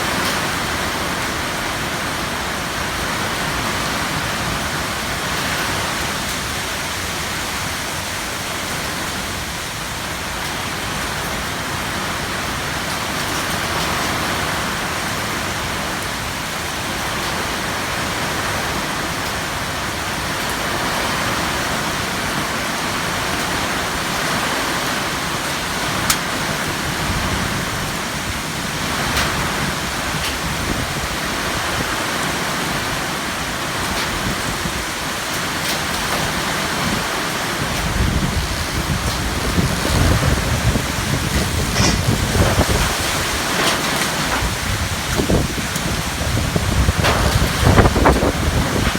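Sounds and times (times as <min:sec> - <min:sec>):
heavy rain: 0:00.0 - 0:48.9
strong wind: 0:00.0 - 0:48.9.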